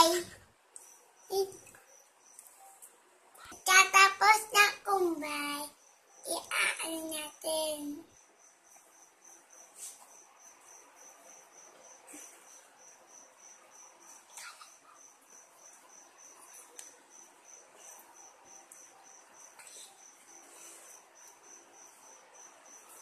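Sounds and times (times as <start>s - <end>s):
cricket chirping: 0.0s - 23.0s.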